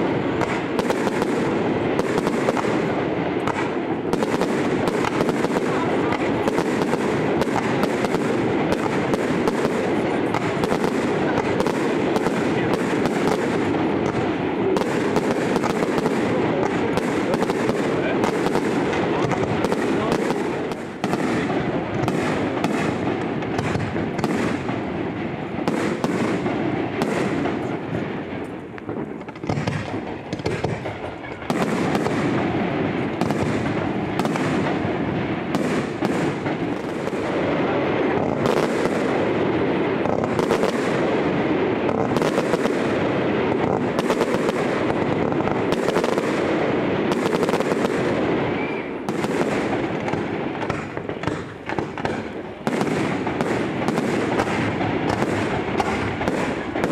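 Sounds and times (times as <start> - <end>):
firework crackle: 0.0 - 56.9
firework shells bursting: 0.0 - 56.9.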